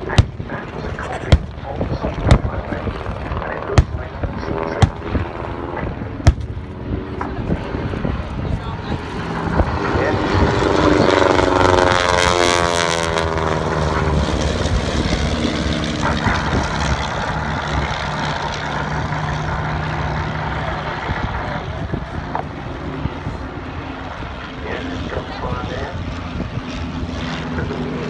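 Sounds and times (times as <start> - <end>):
propeller plane engines flying past: 0.0 - 28.0.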